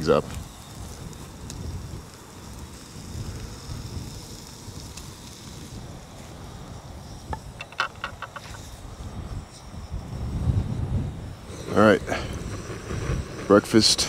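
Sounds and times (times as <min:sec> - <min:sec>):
eggs frying in a pan: 0:00.0 - 0:14.0
wind rumbling on microphone: 0:00.0 - 0:14.0.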